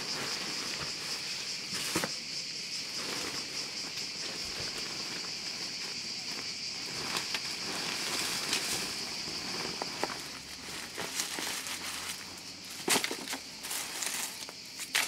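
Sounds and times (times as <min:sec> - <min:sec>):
high-pitched insect drone: 0:00.0 - 0:15.0
leaves and tarp rustling: 0:00.0 - 0:15.0.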